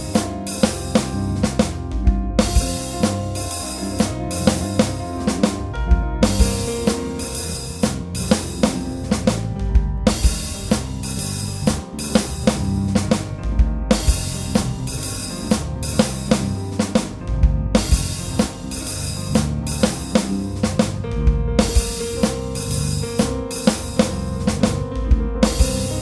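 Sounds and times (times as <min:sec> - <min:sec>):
drum kit beat: 0:00.0 - 0:26.0
heavy bass line: 0:00.0 - 0:26.0.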